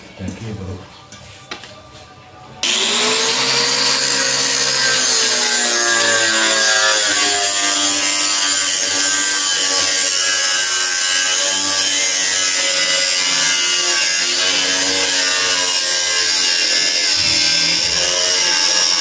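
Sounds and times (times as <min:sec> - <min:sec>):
angle grinder cutting metal pipe: 0:02.6 - 0:19.0.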